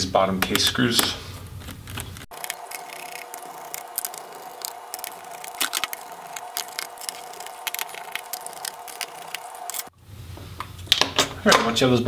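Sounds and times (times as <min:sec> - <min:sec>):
faint steady hum: 0:00.4 - 0:11.0.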